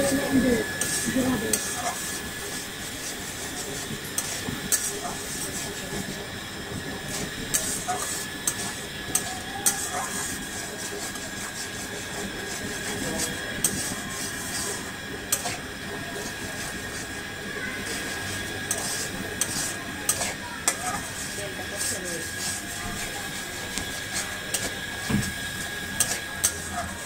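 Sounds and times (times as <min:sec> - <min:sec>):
milk sizzling in a wok: 0:00.0 - 0:27.0.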